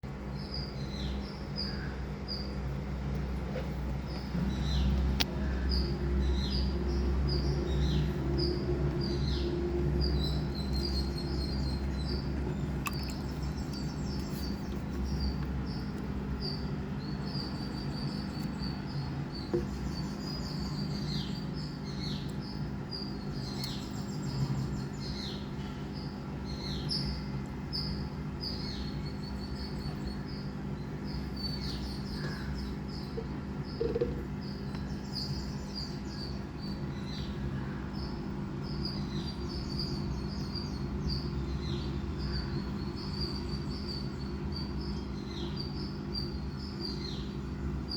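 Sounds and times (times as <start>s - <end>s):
small birds chirping: 0.0s - 47.9s
steady low hum: 0.0s - 47.9s.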